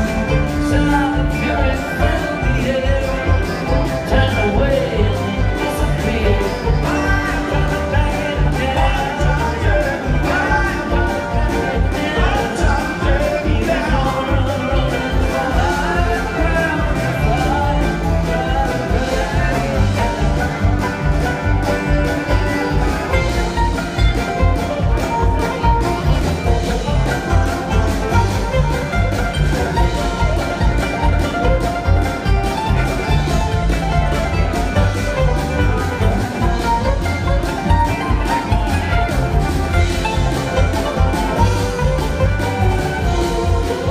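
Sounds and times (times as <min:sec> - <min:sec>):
live band playing: 0:00.0 - 0:43.9.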